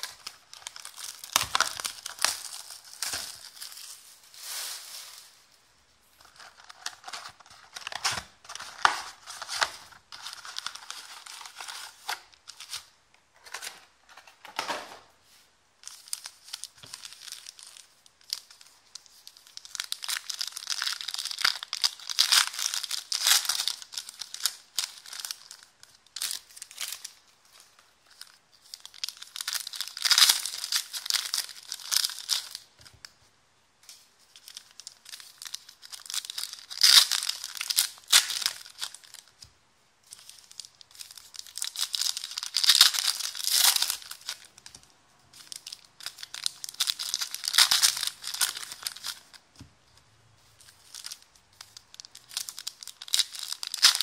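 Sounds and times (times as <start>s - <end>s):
foil wrappers tearing and crinkling: 0.0s - 5.4s, 6.2s - 12.8s, 15.9s - 32.7s, 34.3s - 39.3s, 40.1s - 44.8s, 45.4s - 49.4s, 50.6s - 54.0s.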